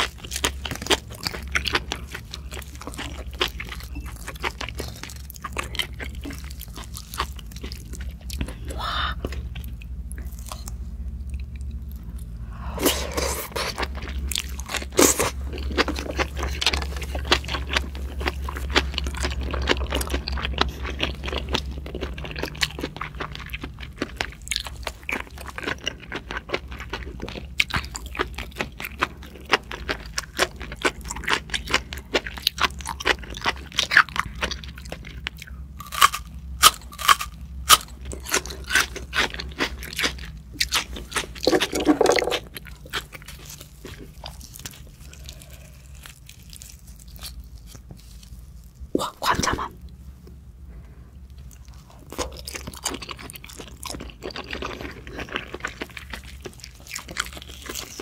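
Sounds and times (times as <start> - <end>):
wet chewing and biting: 0.0 - 49.7, 51.5 - 58.0.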